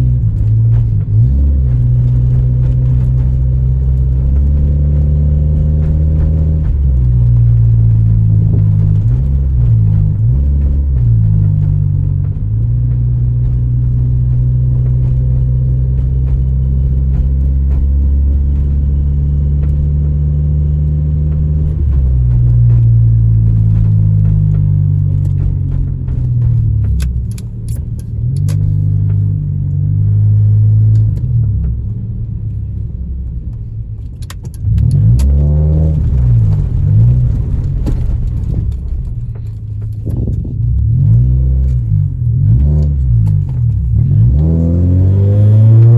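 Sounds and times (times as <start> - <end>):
misfiring car engine: 0.0 - 45.9.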